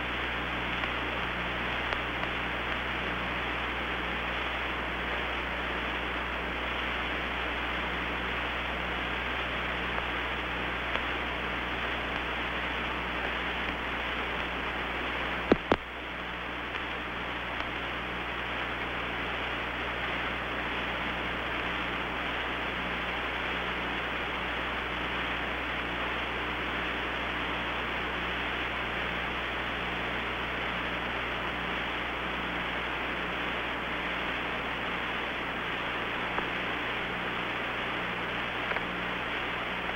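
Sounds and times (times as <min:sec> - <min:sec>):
radio hiss: 0:00.0 - 0:39.9.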